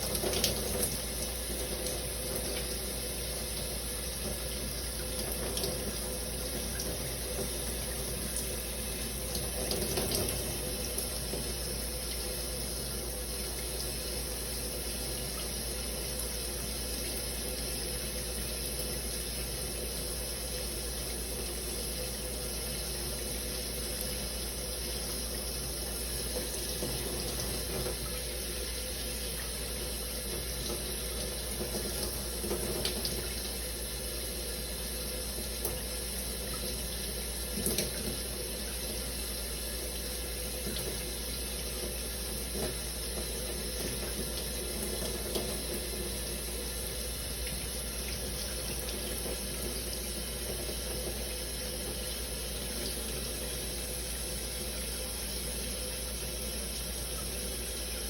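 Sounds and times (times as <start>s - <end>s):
shower water spraying: 0.0s - 58.0s.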